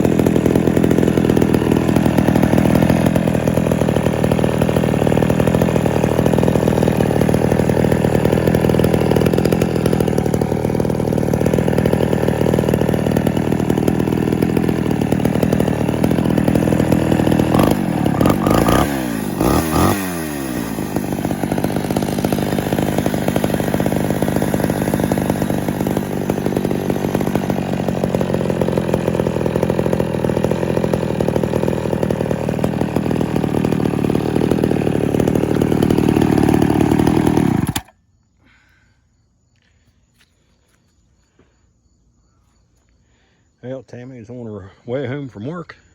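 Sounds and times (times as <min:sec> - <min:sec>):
chainsaw running and revving: 0:00.0 - 0:37.9.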